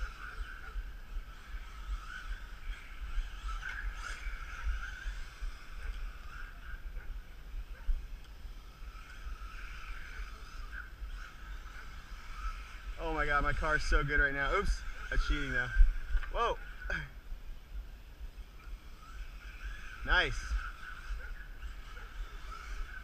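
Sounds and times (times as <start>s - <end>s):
electric toy car motors whining: 0.0s - 17.3s, 17.9s - 23.0s.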